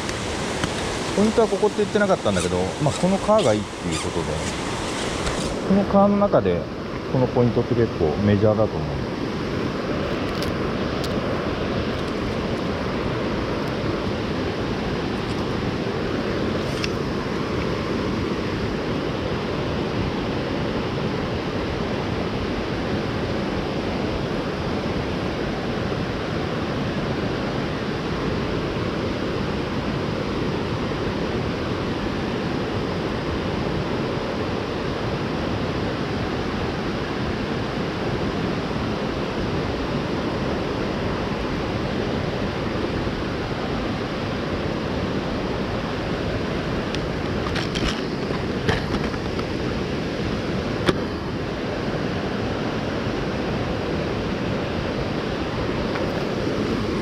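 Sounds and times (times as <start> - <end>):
mountain stream rushing: 0.0 - 7.4, 8.9 - 57.0.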